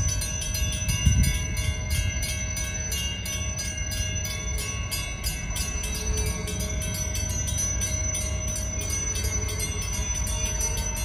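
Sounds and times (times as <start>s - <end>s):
crossing warning bells ringing: 0.0s - 11.0s.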